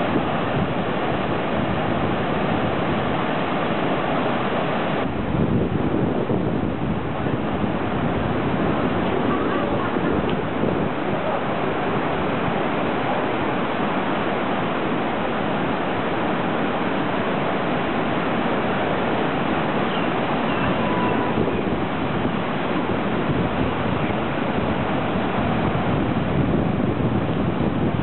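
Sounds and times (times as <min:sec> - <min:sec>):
rough surf breaking: 0:00.0 - 0:28.0
wind buffeting microphone: 0:00.0 - 0:28.0.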